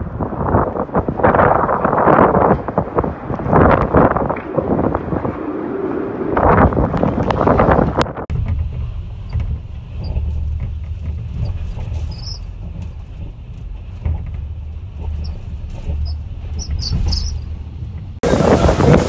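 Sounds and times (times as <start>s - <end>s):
low rumble of wind: 0.0s - 19.0s.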